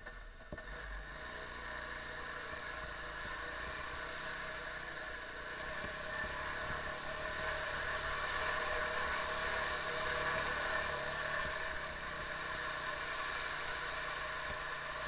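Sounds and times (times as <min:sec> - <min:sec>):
quad bike engine under throttle: 0:00.0 - 0:15.0.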